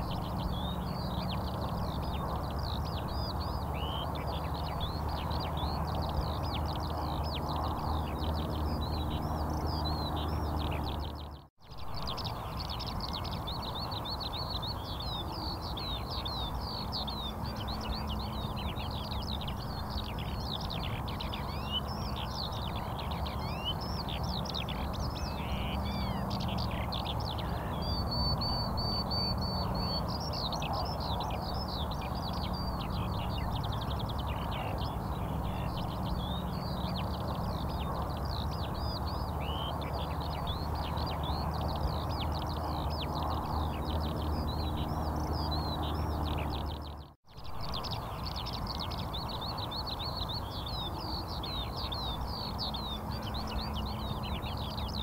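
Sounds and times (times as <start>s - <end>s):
small birds chirping densely: 0.0s - 55.0s.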